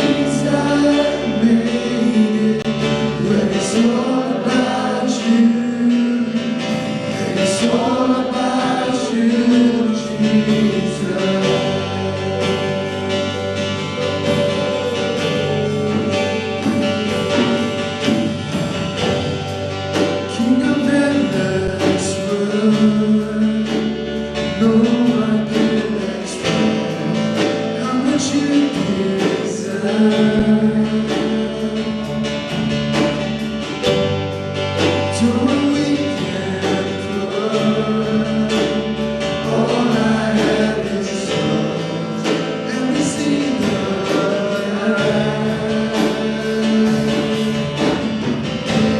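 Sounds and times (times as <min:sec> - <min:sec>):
person singing worship song: 0:00.0 - 0:33.0, 0:34.9 - 0:48.8
guitar accompaniment: 0:00.0 - 0:48.9
steady bass line: 0:00.0 - 0:48.9.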